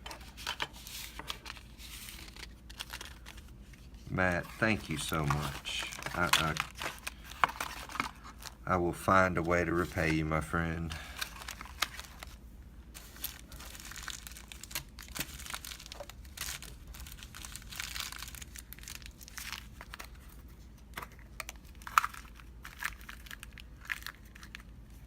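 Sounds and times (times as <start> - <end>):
packaging crinkling and rustling: 0.0 - 25.0.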